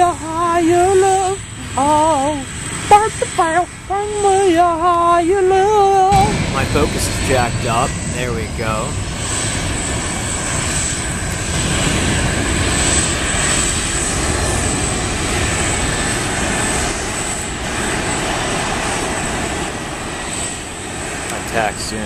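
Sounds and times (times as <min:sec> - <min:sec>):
jet engine rushing: 0:00.0 - 0:22.0.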